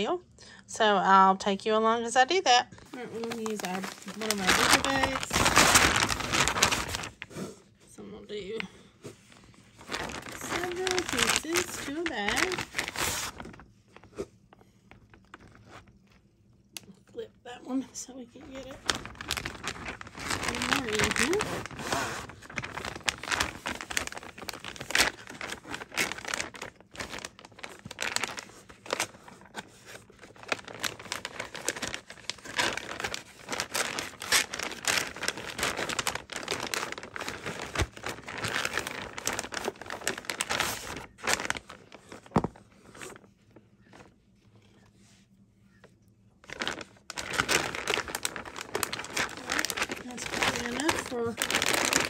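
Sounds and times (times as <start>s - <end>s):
plastic bag crinkling: 2.8s - 7.4s, 9.2s - 16.9s, 17.5s - 44.8s, 46.4s - 52.0s.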